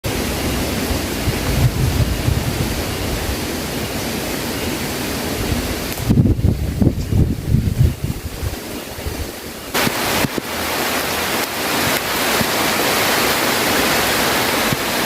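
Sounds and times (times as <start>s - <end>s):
heavy rain falling: 0.0s - 15.0s
wind buffeting microphone: 0.2s - 15.0s.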